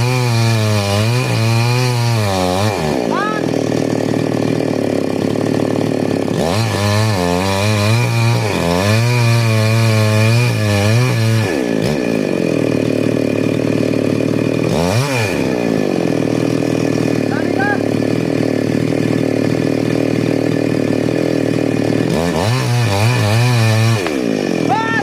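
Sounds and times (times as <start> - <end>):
chainsaw revving and idling: 0.0 - 25.0.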